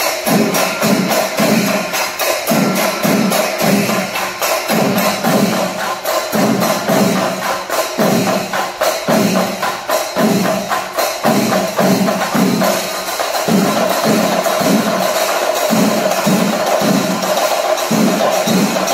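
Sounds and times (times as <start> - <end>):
fast chenda drumming: 0.0 - 18.9
metallic cymbal shimmer: 0.0 - 18.9.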